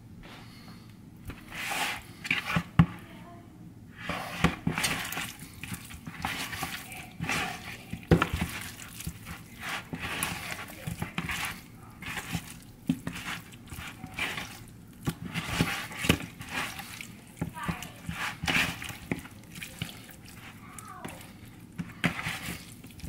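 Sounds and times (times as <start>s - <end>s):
hands squelching raw meat: 4.0s - 23.0s.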